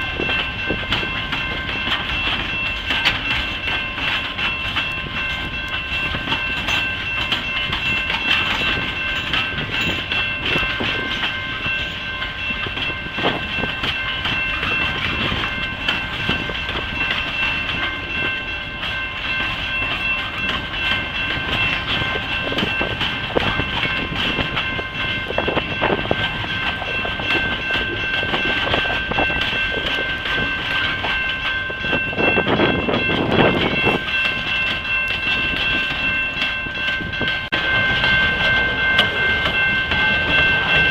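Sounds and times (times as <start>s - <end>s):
clickety-clack over rail joints: 0.0s - 40.9s
train wheels rumbling on rail: 0.0s - 40.9s.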